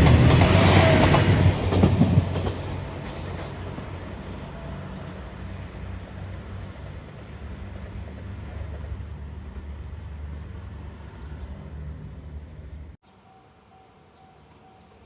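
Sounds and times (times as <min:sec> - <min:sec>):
train passing with rumble and drone: 0:00.0 - 0:15.0.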